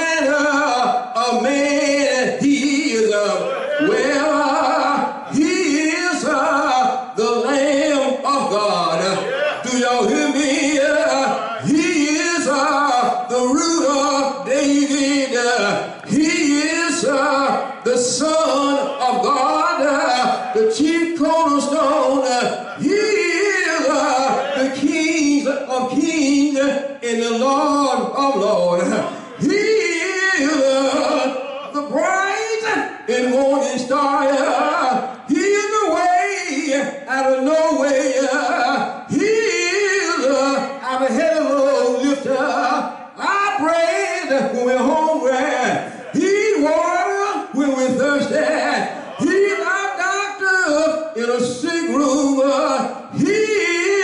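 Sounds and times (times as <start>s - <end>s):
man chanting into microphone: 0.0s - 54.0s.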